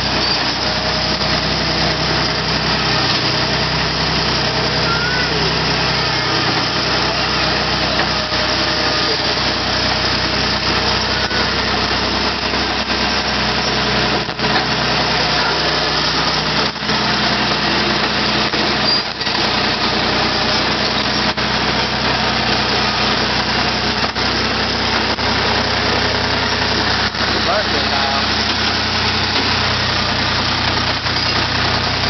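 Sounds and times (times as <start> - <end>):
dozer engine running: 0.0 - 32.0.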